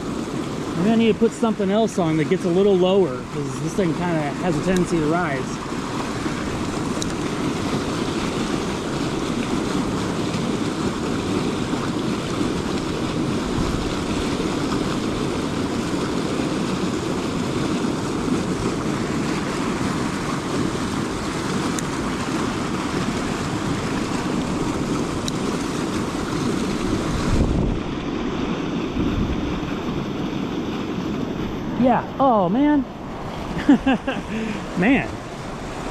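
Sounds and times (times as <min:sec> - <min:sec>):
river water flowing over rocks: 0:00.0 - 0:35.9.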